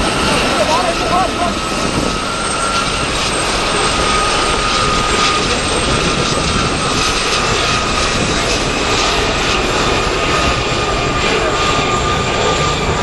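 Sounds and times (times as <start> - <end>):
aircraft engine with thin whine: 0.0 - 13.0.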